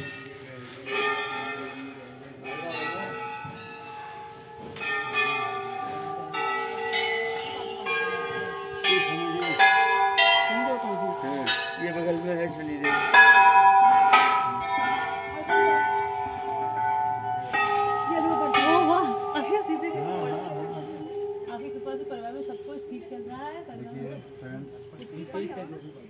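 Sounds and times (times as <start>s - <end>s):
brass bells ringing: 0.0s - 26.0s.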